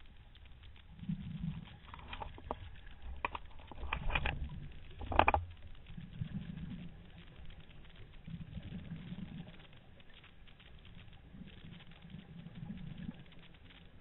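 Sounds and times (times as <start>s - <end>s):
sharp clicks and crackles: 0.0s - 14.0s
underwater bubbles burbling: 0.0s - 14.0s.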